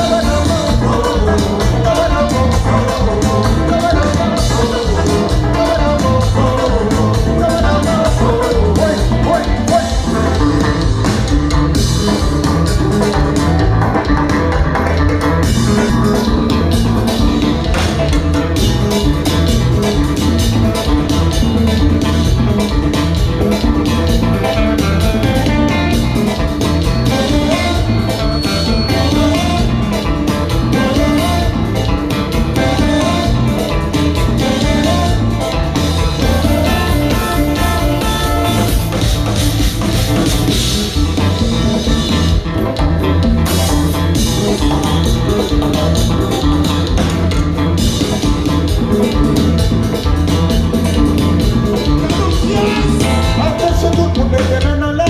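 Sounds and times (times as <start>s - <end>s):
bass guitar: 0.0s - 55.0s
drum kit beat: 0.0s - 55.0s
guitar: 0.0s - 55.0s
live band playing: 0.0s - 55.0s.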